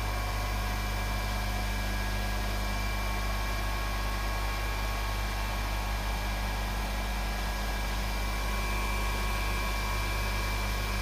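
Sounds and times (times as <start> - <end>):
grinding machine humming and whining: 0.0 - 11.0.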